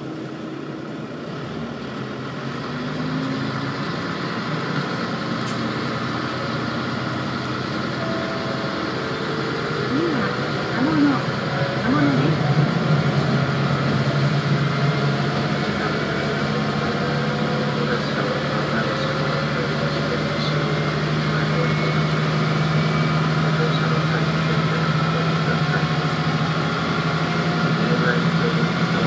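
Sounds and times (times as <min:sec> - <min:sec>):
diesel railcar engine drone: 0:00.0 - 0:29.0
train running noise: 0:00.0 - 0:29.0.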